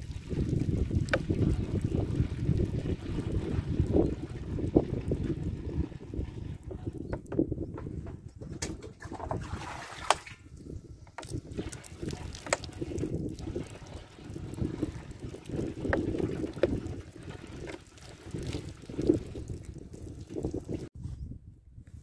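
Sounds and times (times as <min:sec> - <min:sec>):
water pouring and splashing: 0:00.0 - 0:07.5, 0:08.6 - 0:21.0
wind buffeting microphone: 0:00.0 - 0:22.0.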